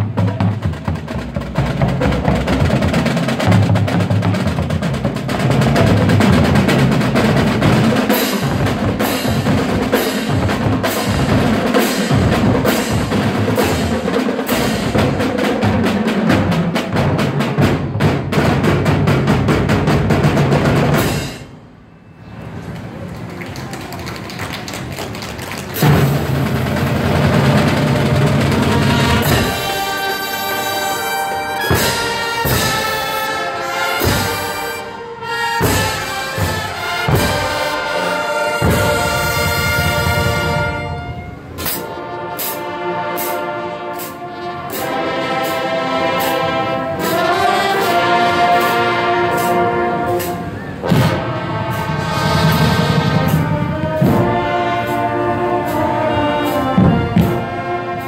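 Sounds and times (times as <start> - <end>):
brass chords: 0.0 - 22.6, 25.8 - 58.0.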